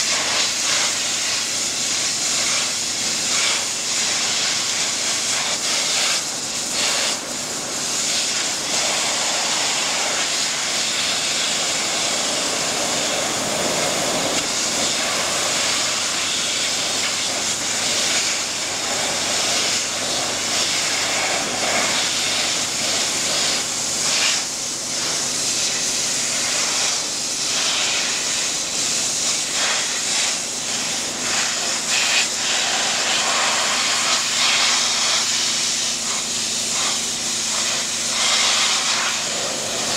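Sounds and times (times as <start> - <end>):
pressure washer spraying metal grating: 0.0 - 39.9.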